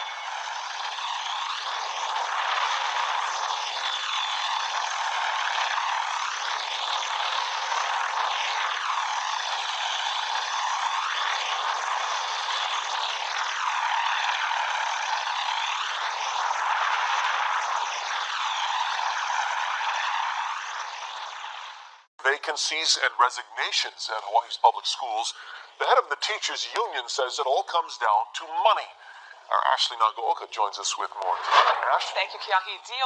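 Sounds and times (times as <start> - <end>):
helicopter engine and rotor drone: 0.0 - 33.0.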